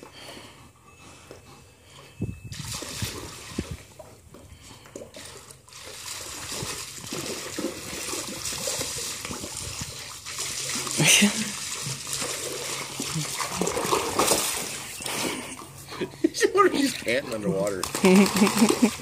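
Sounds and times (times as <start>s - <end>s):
dog splashing through water: 2.5s - 15.8s, 16.8s - 19.0s.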